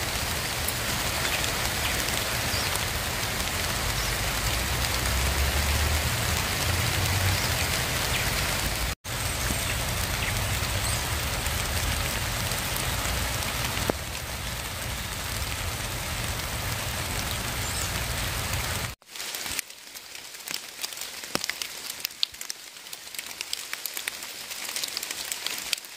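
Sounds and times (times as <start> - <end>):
rain falling on foliage: 0.0 - 25.9
raindrops ticking: 0.0 - 25.9.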